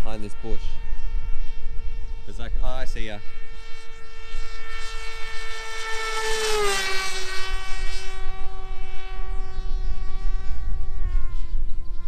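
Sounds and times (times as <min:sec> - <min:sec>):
model plane propeller whine: 0:00.0 - 0:12.0.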